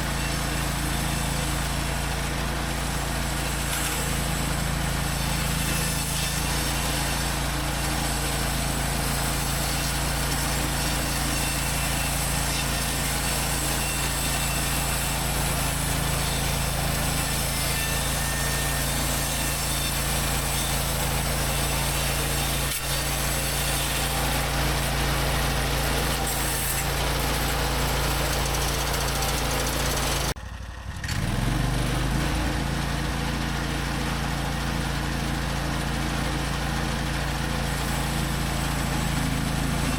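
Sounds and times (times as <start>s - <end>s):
bandsaw mill cutting log: 0.0s - 39.9s.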